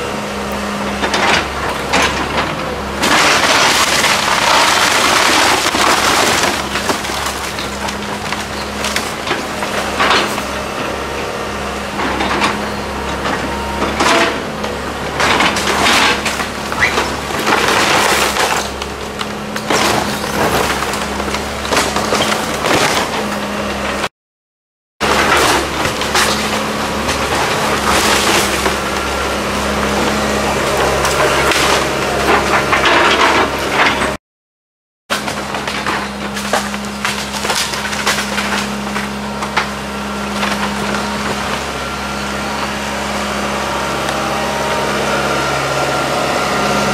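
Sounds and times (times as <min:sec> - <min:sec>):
diesel engine humming: 0:00.0 - 0:24.1, 0:25.0 - 0:34.2, 0:35.2 - 0:46.9
wood cracking and splintering: 0:01.0 - 0:10.9, 0:13.2 - 0:24.1, 0:25.0 - 0:34.2, 0:35.1 - 0:44.6.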